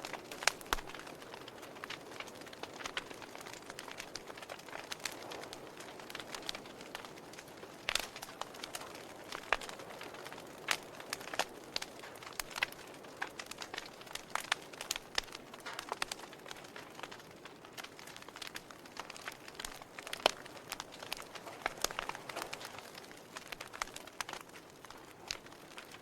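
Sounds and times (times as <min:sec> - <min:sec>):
soft fire hiss: 0:00.0 - 0:26.0
wood fire pops and snaps: 0:00.0 - 0:26.0.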